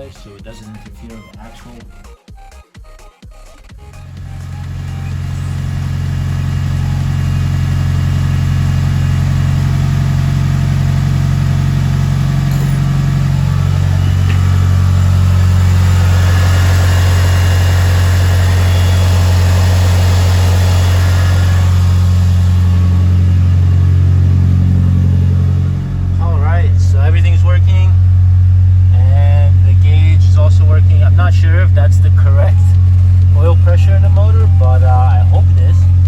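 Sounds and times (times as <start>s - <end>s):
car engine idling: 3.8s - 36.0s.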